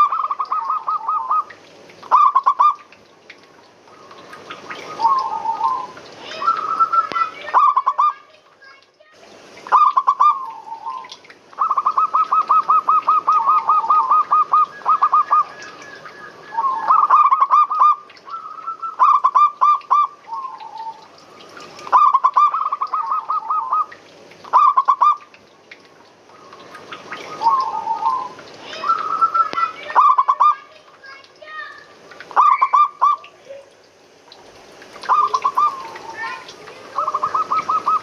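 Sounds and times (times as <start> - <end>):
doves cooing: 0.0 - 2.8, 3.9 - 8.2, 9.7 - 25.2, 26.3 - 30.6, 32.3 - 33.7, 35.0 - 38.0.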